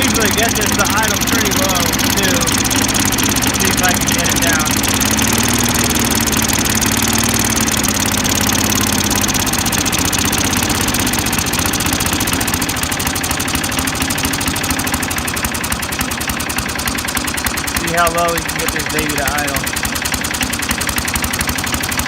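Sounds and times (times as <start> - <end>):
small lawn mower engine idling: 0.0 - 22.0.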